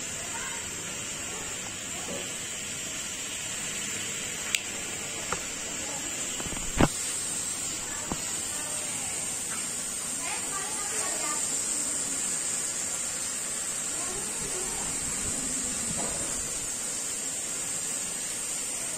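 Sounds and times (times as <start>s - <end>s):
ceiling fan whirring: 0.0s - 18.9s.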